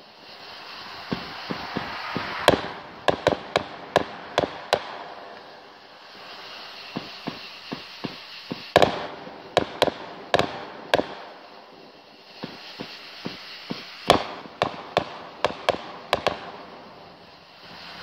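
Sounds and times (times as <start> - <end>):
fireworks exploding with sharp bangs: 0.0 - 18.0.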